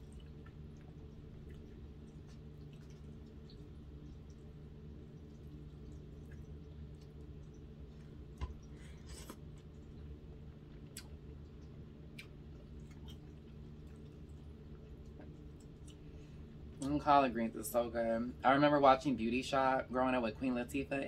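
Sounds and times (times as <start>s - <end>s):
soft wet chewing: 0.0s - 17.0s
steady low hum: 0.0s - 21.0s.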